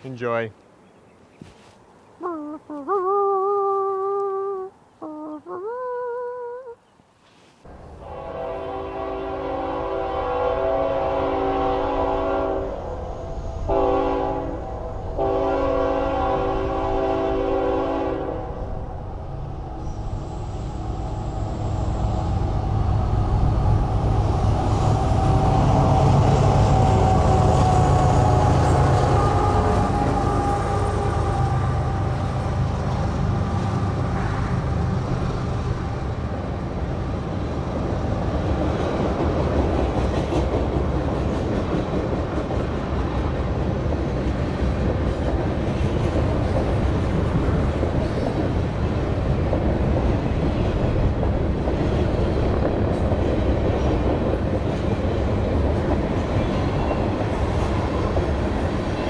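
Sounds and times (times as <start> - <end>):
diesel locomotives droning past: 7.7 - 59.0.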